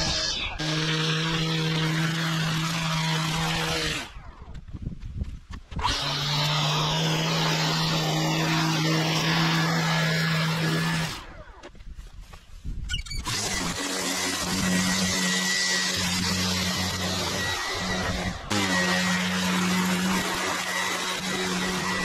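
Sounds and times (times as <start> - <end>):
lawn edger engine running: 0.0 - 4.2, 5.8 - 11.6, 13.1 - 22.0
blade cutting turf: 0.0 - 4.6, 5.6 - 22.0.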